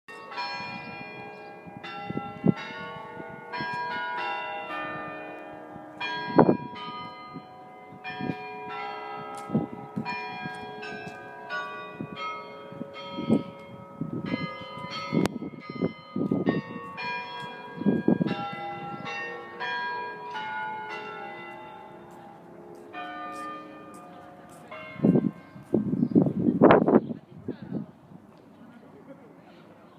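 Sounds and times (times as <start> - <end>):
tower bells ringing: 0.1 - 26.4.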